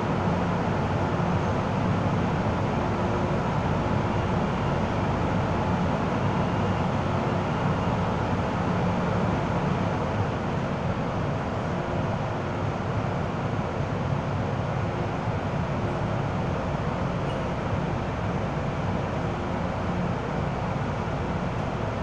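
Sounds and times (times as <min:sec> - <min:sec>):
train air-conditioning hum: 0:00.0 - 0:22.0.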